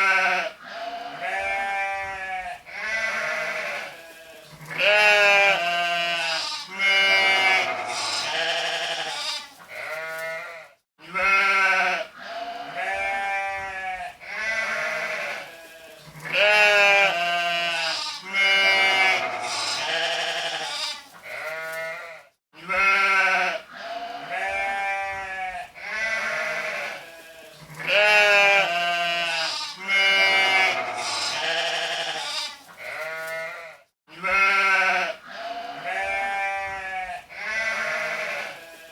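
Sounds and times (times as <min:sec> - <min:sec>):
sheep bleating: 0:00.0 - 0:38.9.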